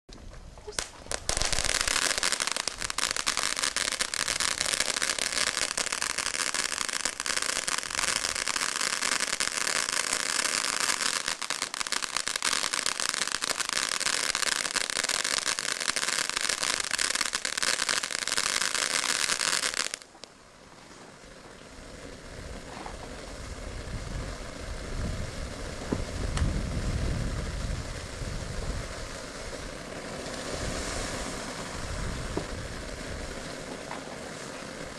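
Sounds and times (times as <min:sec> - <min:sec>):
firework fountain hissing and crackling: 0:00.2 - 0:34.9.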